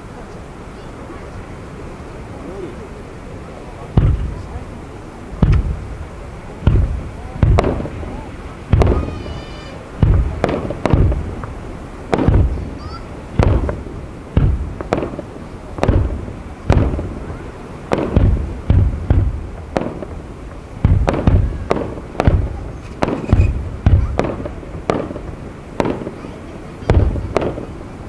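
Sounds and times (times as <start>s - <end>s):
firework shells bursting: 3.9s - 28.0s.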